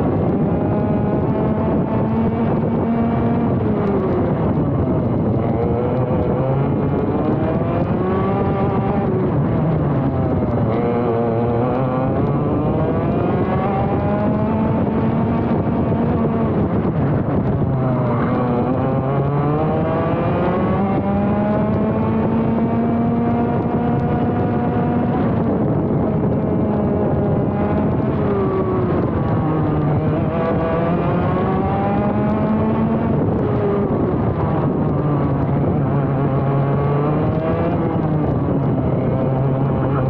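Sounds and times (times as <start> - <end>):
two-stroke kart engine racing: 0.0 - 40.0.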